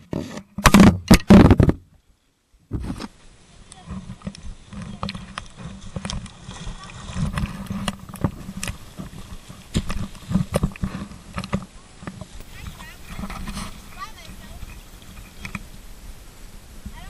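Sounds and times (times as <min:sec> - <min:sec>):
water rumbling under mat: 0:02.7 - 0:17.0.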